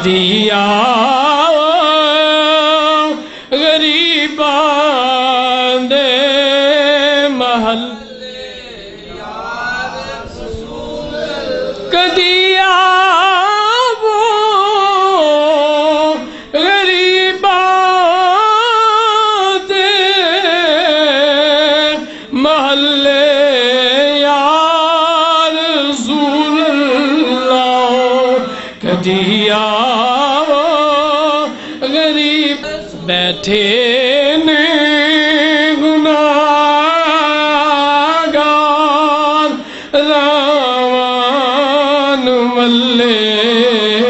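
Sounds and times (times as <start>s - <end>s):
man singing unaccompanied: 0.0s - 44.0s.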